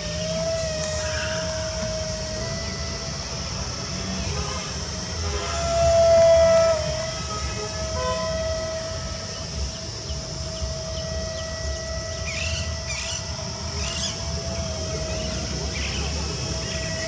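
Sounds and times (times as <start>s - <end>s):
toy jet motors whining: 0.0s - 17.0s.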